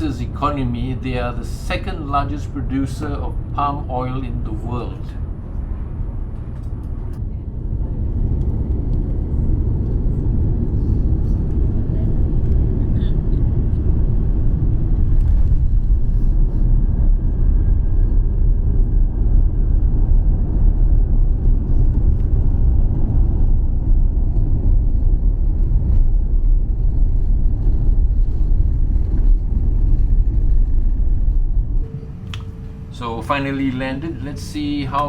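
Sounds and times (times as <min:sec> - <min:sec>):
aircraft cabin low rumble: 0:00.0 - 0:35.0.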